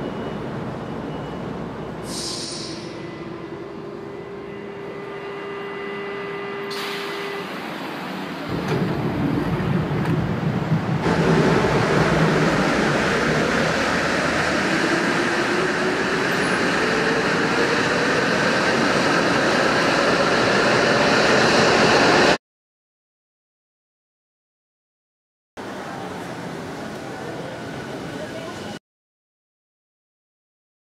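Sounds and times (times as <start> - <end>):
train pulling out of station: 0.0 - 22.4, 25.6 - 28.8.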